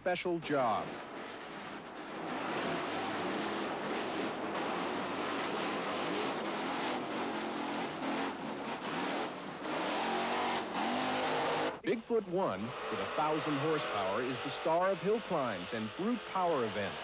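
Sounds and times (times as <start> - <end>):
monster truck engines revving: 0.0 - 17.0
trucks crushing cars: 0.0 - 17.0.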